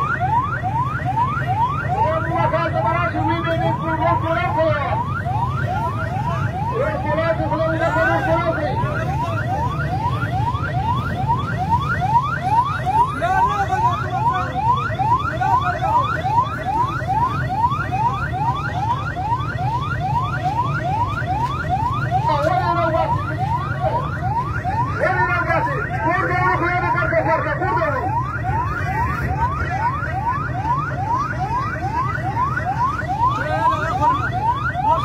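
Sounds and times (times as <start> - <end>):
ambulance siren yelping: 0.0 - 35.0.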